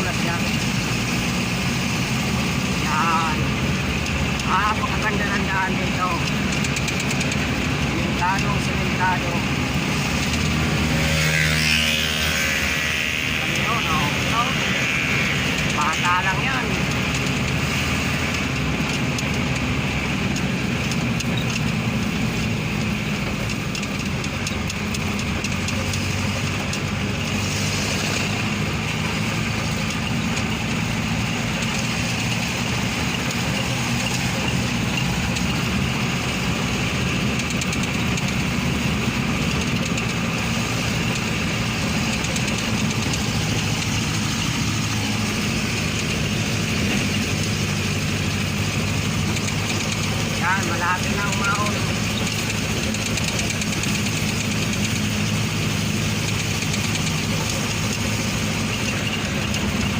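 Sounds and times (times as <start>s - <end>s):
road noise hiss: 0.0s - 59.9s
truck engine running: 0.0s - 59.9s.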